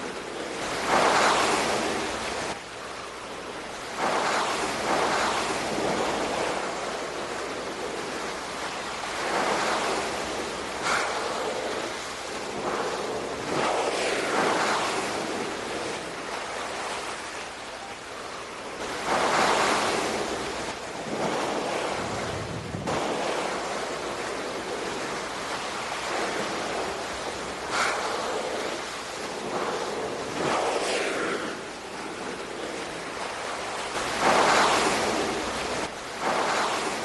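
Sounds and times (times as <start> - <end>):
ocean waves breaking: 0.0 - 37.0.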